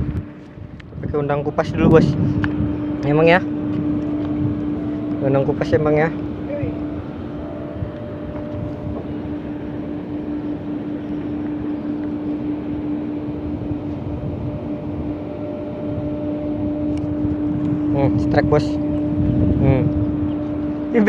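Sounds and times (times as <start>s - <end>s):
steady engine drone: 0.0s - 21.0s.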